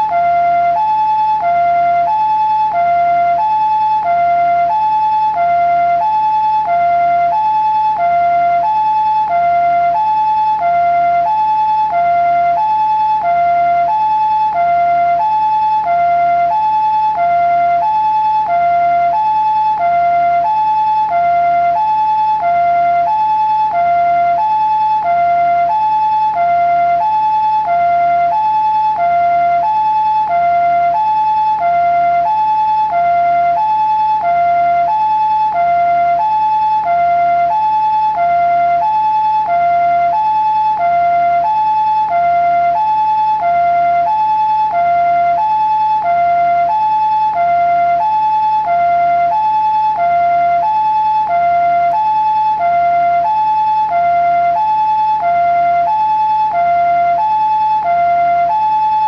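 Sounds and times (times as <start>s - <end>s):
ambulance two-tone siren: 0.0s - 59.0s.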